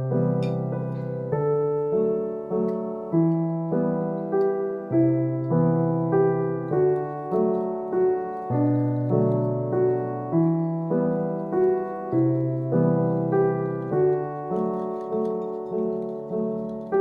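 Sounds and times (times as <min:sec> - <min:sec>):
gentle piano tune: 0:00.0 - 0:17.0.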